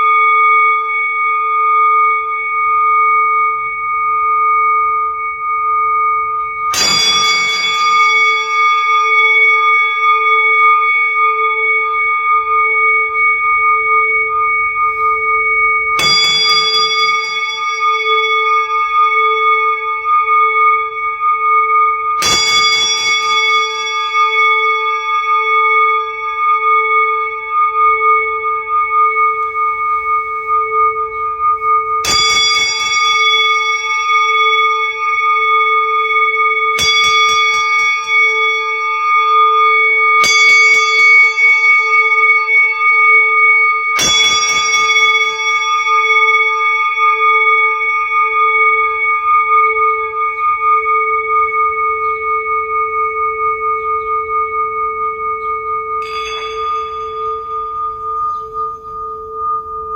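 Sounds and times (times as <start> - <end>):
singing bowls ringing: 0.0 - 59.9.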